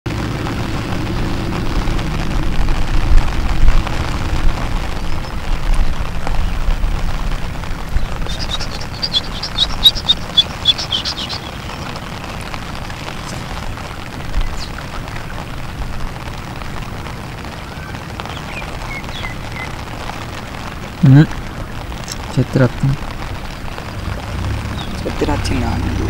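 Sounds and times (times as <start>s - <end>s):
rain on water: 0.1s - 26.0s
wind rumble on microphone: 0.1s - 26.0s.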